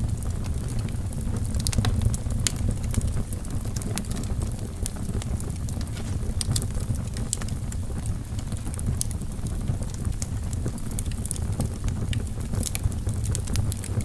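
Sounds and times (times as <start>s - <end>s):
wood fire burning: 0.0s - 14.0s.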